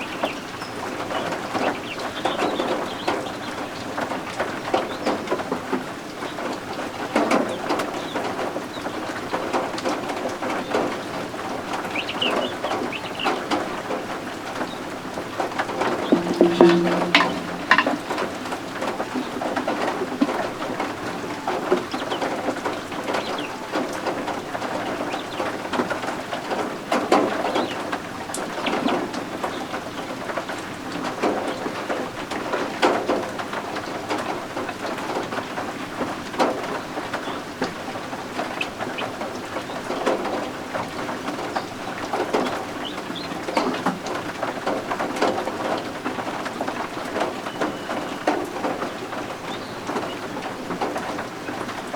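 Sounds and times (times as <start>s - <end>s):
steady rain: 0.0s - 18.2s, 19.2s - 51.9s.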